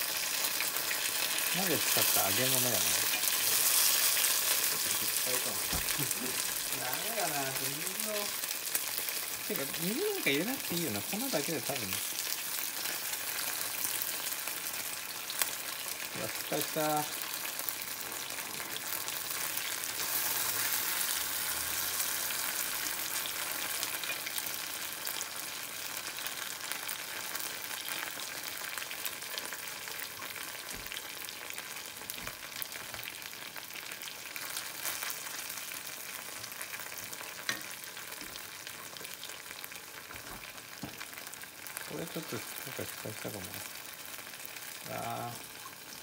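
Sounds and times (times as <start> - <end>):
tempura sizzling in hot oil: 0.0 - 46.0.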